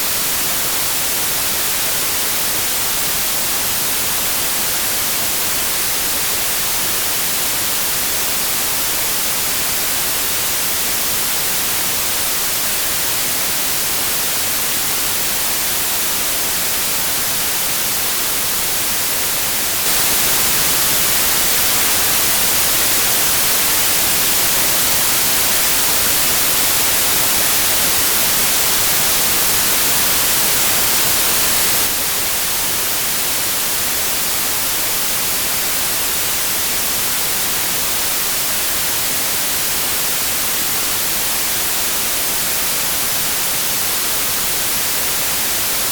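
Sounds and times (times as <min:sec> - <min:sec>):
white noise hiss: 0:00.0 - 0:45.9.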